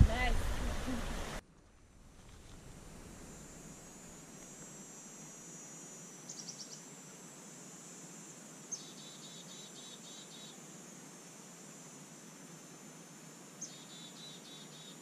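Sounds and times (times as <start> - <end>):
crickets trilling: 2.0 - 15.0.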